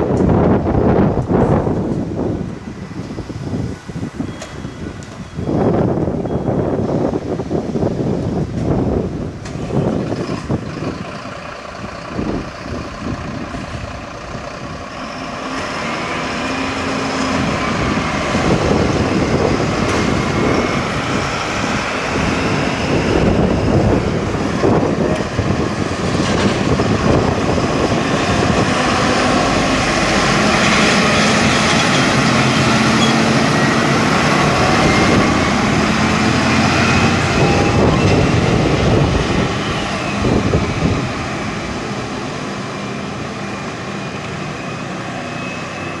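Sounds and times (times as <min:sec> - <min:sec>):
fire trucks driving past: 0:00.0 - 0:46.0.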